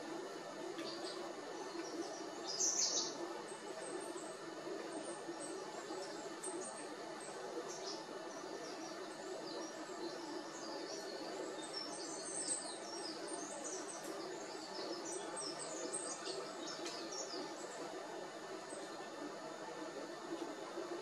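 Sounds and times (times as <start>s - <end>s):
steady background noise: 0.0s - 21.0s
small birds chirping: 0.2s - 20.8s.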